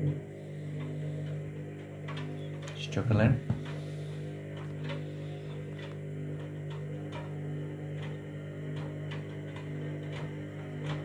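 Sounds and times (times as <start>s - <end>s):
washing machine motor humming: 0.0s - 11.0s.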